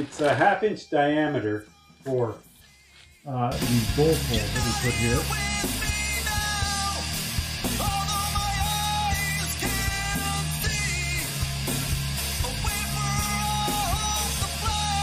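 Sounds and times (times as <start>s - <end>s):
rock song with singing: 2.9s - 15.0s.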